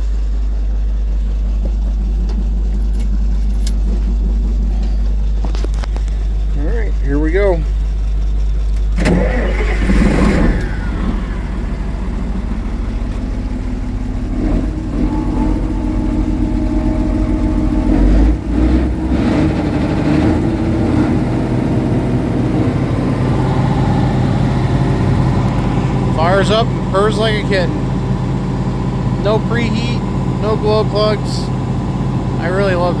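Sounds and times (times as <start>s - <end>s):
diesel engine cranking and running: 0.0s - 33.0s.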